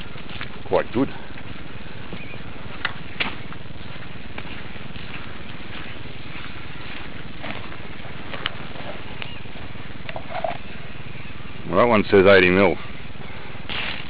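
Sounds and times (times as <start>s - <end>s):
footsteps in wet grass and mud: 0.0s - 11.5s
rushing outdoor noise: 0.0s - 14.0s.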